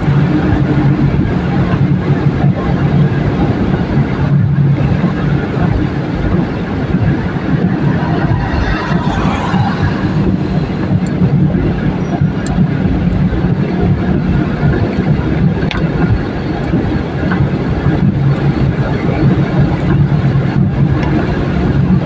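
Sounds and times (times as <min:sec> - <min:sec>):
car engine and road drone: 0:00.0 - 0:22.0
tyres on wet tarmac: 0:00.0 - 0:22.0.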